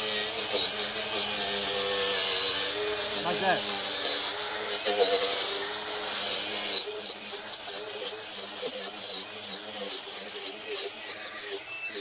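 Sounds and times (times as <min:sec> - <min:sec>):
electric sander whining: 0:00.0 - 0:12.0.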